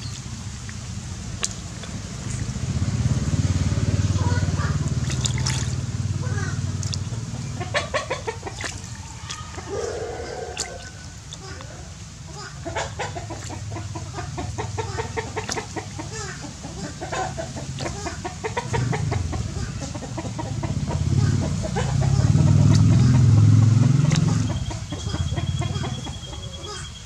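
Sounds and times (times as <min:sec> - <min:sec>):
frogs croaking chorus: 0:01.3 - 0:27.0.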